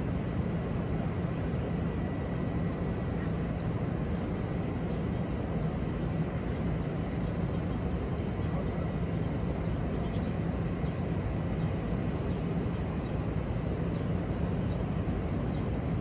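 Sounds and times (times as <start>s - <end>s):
city background rumble and hiss: 0.0s - 16.0s.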